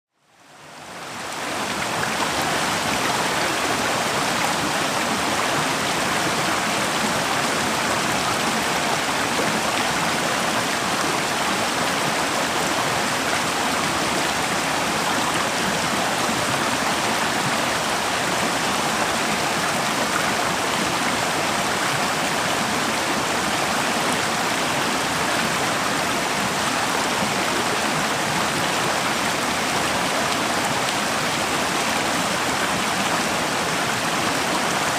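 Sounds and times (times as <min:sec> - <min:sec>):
river flowing: 0:00.2 - 0:34.9.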